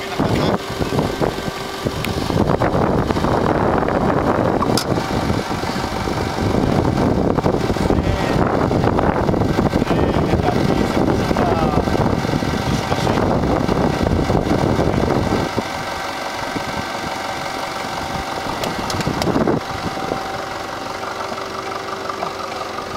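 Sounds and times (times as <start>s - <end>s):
suv engine running: 0.0s - 22.9s.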